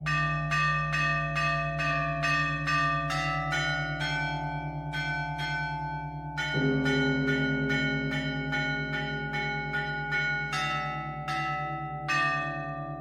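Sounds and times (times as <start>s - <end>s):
large bell pulsing hum: 0.0s - 13.0s
small church bells ringing: 0.0s - 13.0s.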